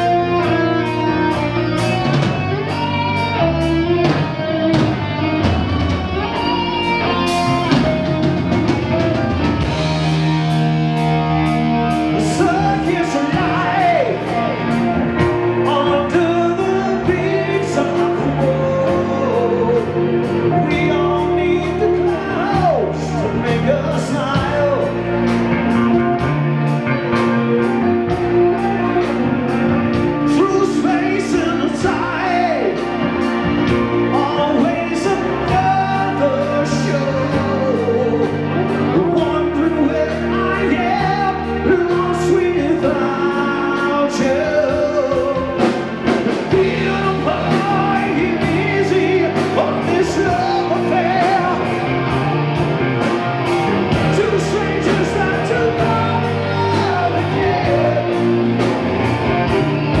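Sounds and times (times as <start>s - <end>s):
bass guitar: 0.0s - 60.0s
drum kit beat: 0.0s - 60.0s
electric guitar: 0.0s - 60.0s
man singing: 9.6s - 26.3s, 27.0s - 53.3s, 53.9s - 59.1s.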